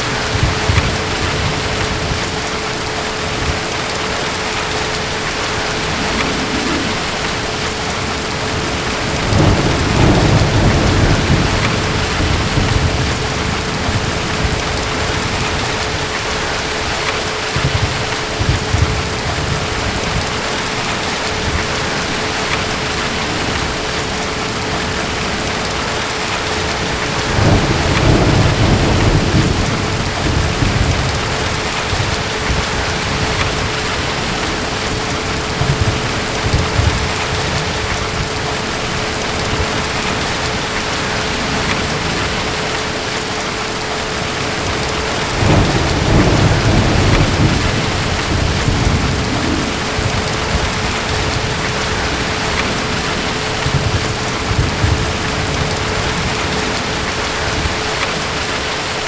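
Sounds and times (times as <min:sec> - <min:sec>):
distant thunder rolling: 0:00.0 - 0:58.5
heavy rain: 0:00.0 - 0:59.0.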